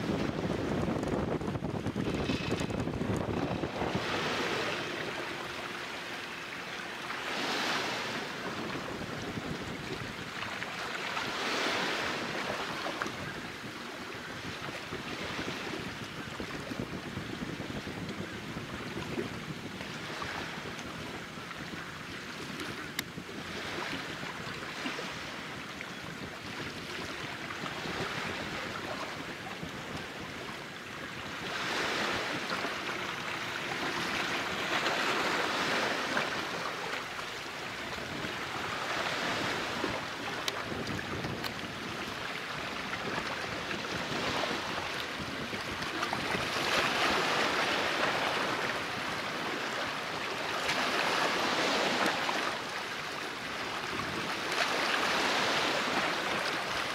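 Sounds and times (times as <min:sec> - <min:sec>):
small waves washing onto shore: 0:00.0 - 0:56.9.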